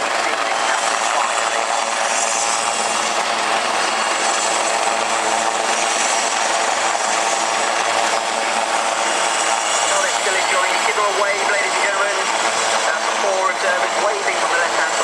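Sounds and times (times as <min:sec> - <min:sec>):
helicopters hovering: 0:00.0 - 0:15.0.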